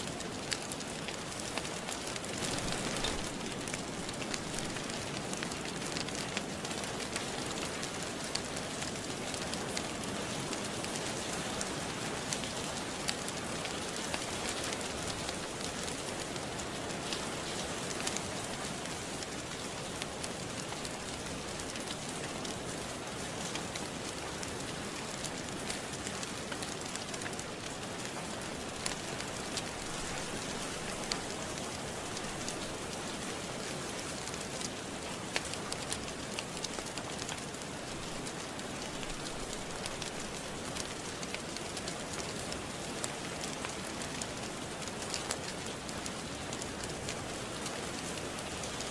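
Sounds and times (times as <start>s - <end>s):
steady rain: 0.0s - 48.9s
wood fire crackling: 0.0s - 48.9s.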